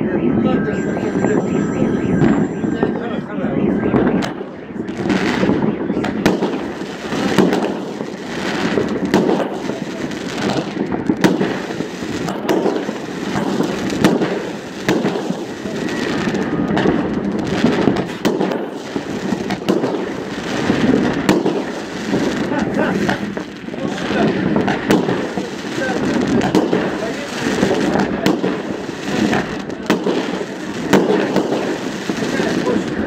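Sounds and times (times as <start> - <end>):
fireworks bursting: 0.0 - 33.0
sharp firework bangs: 3.8 - 33.0.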